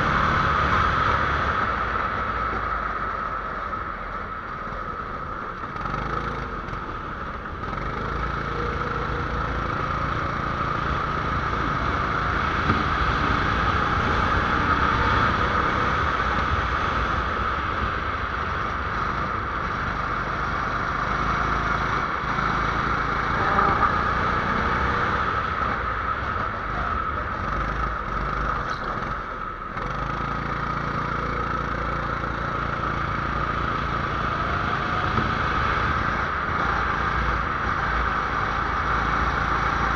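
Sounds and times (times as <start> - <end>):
kart engine running under load: 0.0 - 39.9.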